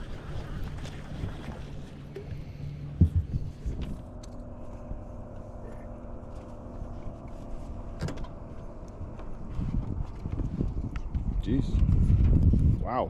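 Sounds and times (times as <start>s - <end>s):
boat motor running: 0.0s - 12.7s.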